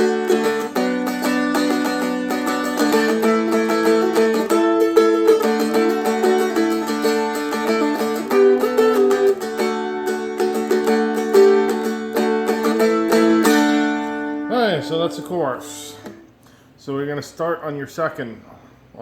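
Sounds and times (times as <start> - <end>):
strummed stringed instrument melody: 0.0 - 16.3.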